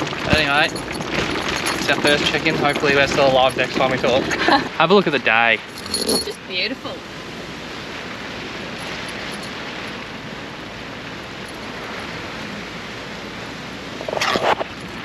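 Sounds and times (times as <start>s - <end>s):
storm wind with rain: 0.0s - 15.0s.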